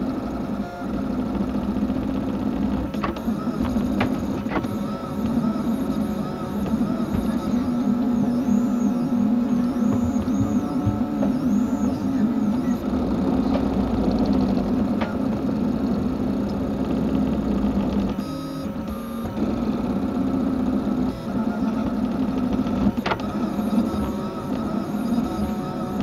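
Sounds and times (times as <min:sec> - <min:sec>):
cooling fan running: 0:00.0 - 0:26.0
stepper motors whirring: 0:00.0 - 0:26.0.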